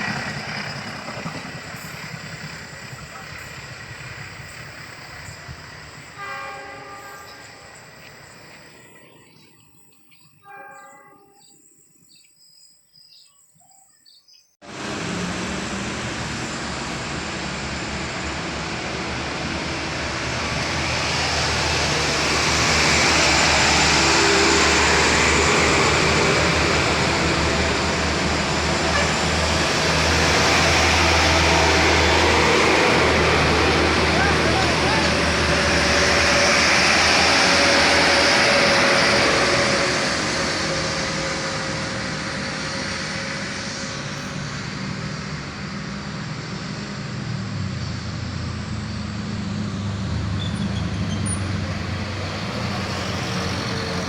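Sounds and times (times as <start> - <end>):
train passing: 0.0 - 12.1, 14.6 - 54.0.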